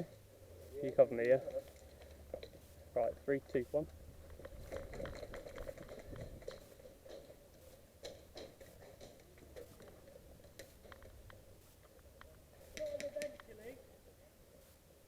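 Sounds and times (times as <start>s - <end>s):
sharp clicks and light knocks: 0.8s - 13.6s.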